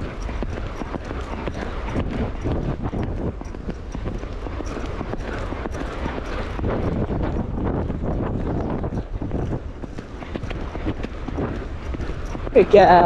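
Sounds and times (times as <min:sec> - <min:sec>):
horse hoofbeats on sand: 0:00.0 - 0:13.0
wind buffeting microphone: 0:00.0 - 0:13.0.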